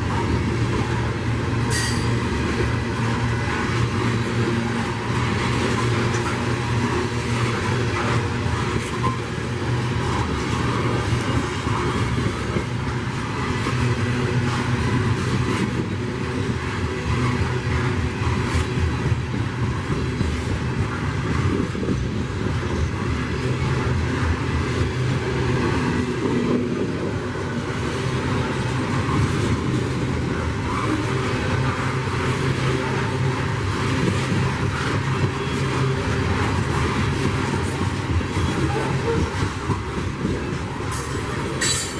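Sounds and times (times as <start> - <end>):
diesel locomotive engine drone: 0.0 - 41.9
train cars rumbling and clattering: 0.0 - 41.9.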